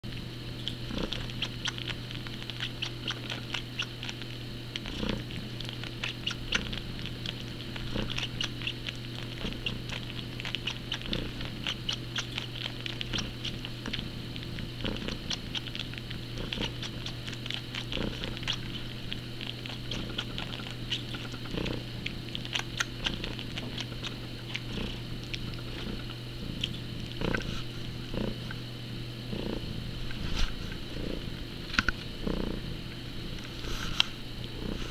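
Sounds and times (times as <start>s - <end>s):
cat sucking clicks: 0.1s - 34.9s
cat purring: 0.2s - 34.9s.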